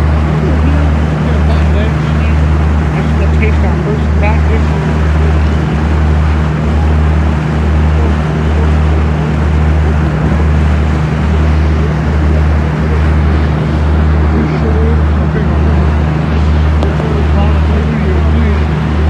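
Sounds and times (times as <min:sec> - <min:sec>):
boat engine droning: 0:00.0 - 0:19.0
churning wake water: 0:00.0 - 0:19.0.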